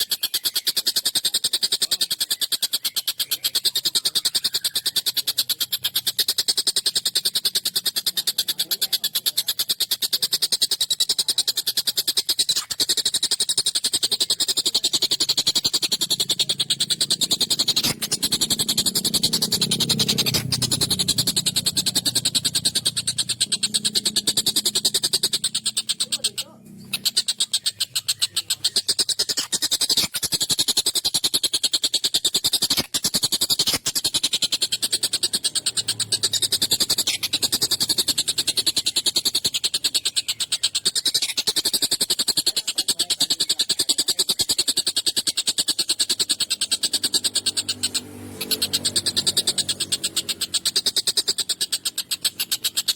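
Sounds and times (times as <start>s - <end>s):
kingfisher harsh rattling call: 0.0s - 52.9s.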